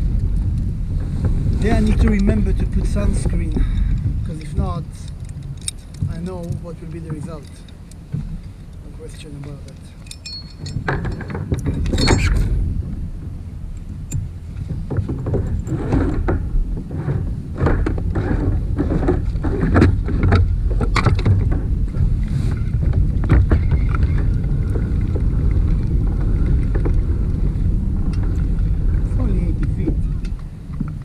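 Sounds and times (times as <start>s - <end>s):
water and wind around hull: 0.0s - 31.0s
knocks and clunks from kayak: 0.1s - 4.9s, 10.8s - 31.0s.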